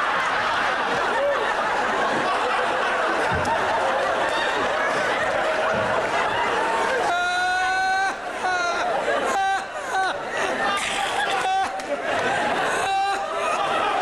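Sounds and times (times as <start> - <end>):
studio audience laughing: 0.0 - 14.0.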